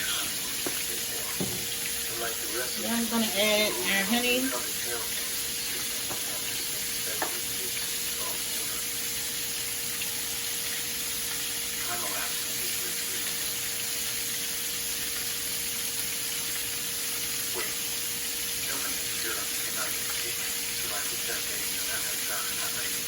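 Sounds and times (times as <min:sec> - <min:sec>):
sauce sizzling in a pan: 0:00.0 - 0:23.0.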